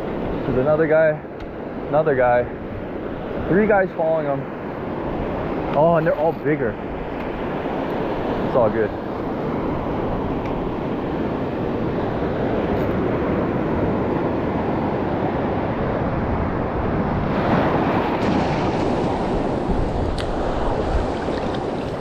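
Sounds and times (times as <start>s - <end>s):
surf washing over reef: 0.0s - 22.0s
wind buffeting microphone: 0.0s - 22.0s.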